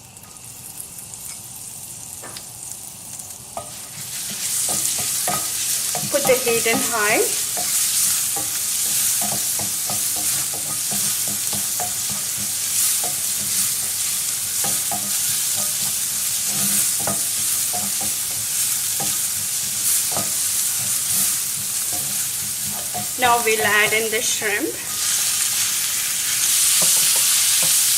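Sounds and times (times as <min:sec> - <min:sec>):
garlic sizzling in a pan: 0:00.0 - 0:27.9
utensil scraping a pan: 0:03.6 - 0:27.9.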